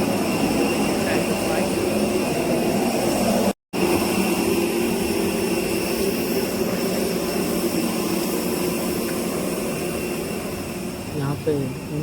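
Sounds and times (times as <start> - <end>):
jet airliner hum and whine: 0.0 - 12.0.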